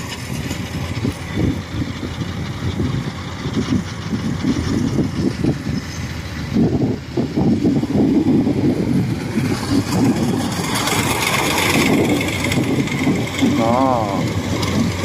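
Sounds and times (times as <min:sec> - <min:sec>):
combine harvester engine rumbling: 0:00.0 - 0:15.0.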